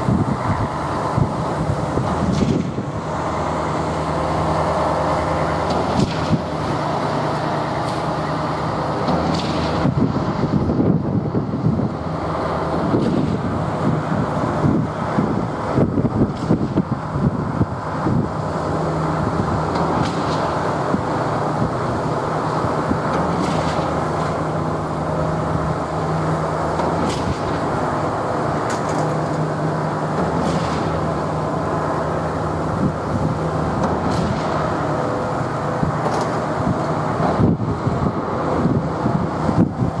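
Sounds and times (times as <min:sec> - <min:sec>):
diesel engine hum: 0:00.0 - 0:40.0
traffic noise: 0:00.0 - 0:40.0.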